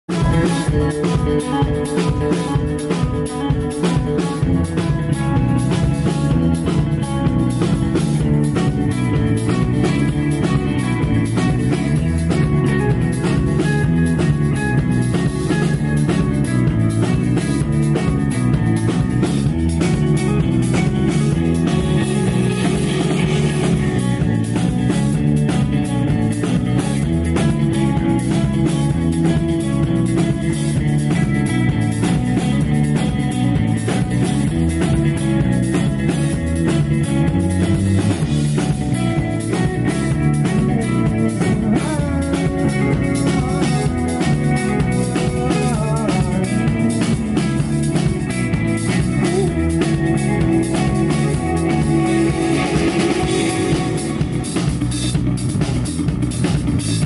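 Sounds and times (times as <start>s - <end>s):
drum kit beat: 0.0s - 57.0s
electric guitars and bass: 0.0s - 57.0s.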